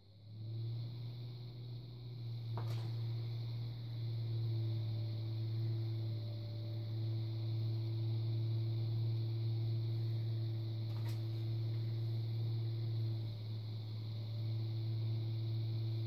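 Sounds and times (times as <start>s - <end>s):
potter's wheel motor humming: 0.0s - 16.0s.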